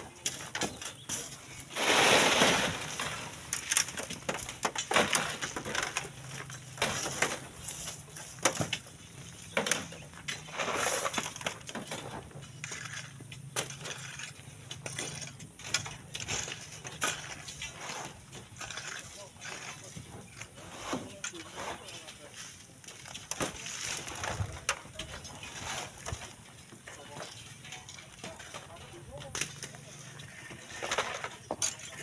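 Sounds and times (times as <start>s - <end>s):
shovel digging sand and gravel: 0.0s - 32.0s.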